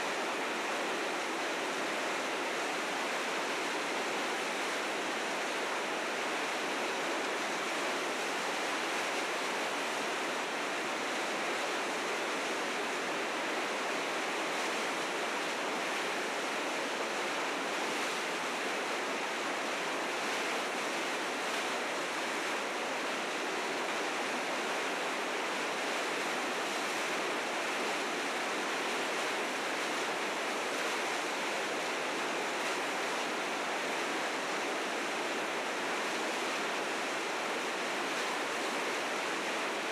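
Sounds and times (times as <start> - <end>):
river rapids roaring: 0.0 - 39.9.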